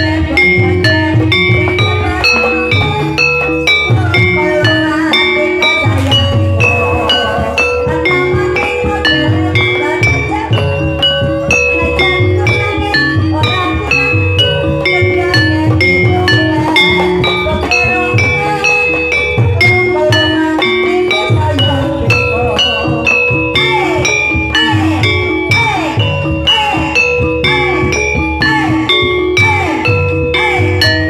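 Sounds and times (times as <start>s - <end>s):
metallophone melody: 0.0s - 31.0s
repeating drum beat: 0.0s - 31.0s.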